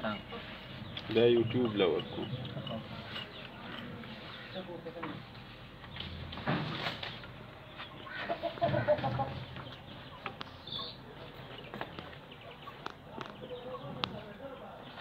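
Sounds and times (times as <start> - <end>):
chicken clucking: 0.2 - 5.0, 7.6 - 15.0.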